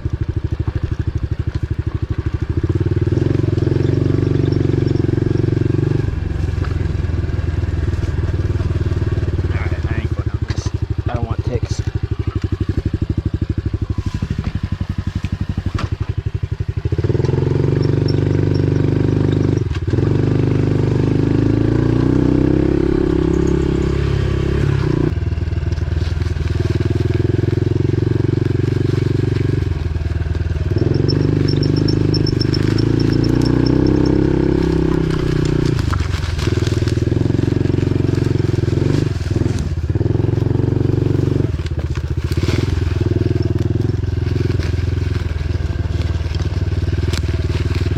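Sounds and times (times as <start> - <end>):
small motorcycle engine revving: 0.0 - 47.9.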